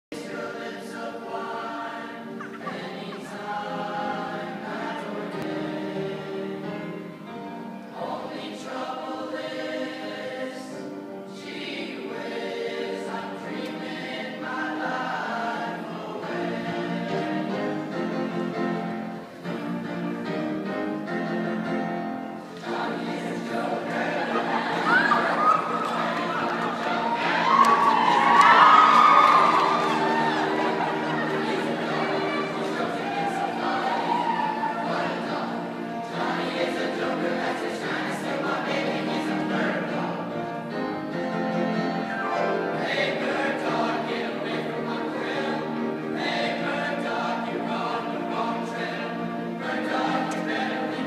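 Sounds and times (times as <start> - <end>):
choir singing: 0.1 - 51.0.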